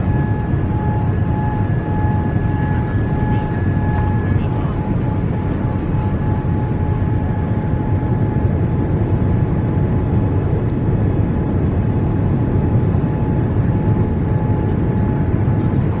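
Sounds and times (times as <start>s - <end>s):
faint steady whine: 0.0s - 16.0s
jet engine and air rumble: 0.0s - 16.0s.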